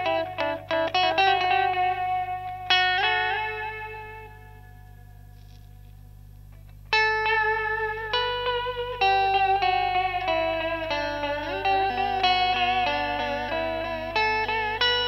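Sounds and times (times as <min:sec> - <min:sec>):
electric guitar with warbling chorus: 0:00.0 - 0:05.6, 0:06.5 - 0:15.0.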